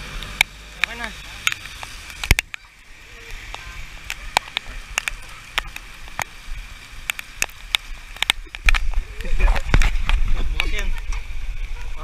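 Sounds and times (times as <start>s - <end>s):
rain hiss: 0.0s - 12.0s
water drops ticking on camera: 0.2s - 10.8s.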